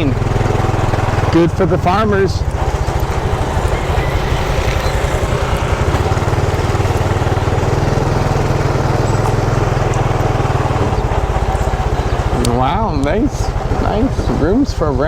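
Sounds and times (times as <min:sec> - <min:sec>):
road noise: 0:00.0 - 0:15.0
small motorcycle engine running: 0:00.0 - 0:15.0.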